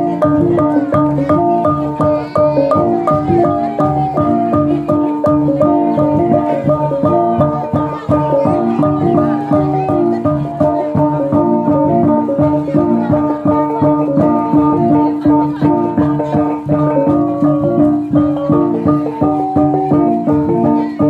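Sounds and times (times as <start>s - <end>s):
fast melody of pitched notes: 0.0s - 21.0s.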